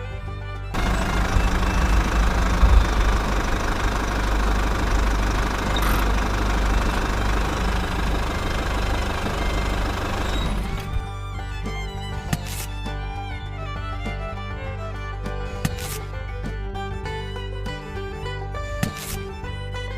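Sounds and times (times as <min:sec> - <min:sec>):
small engine running roughly: 0:00.0 - 0:19.9.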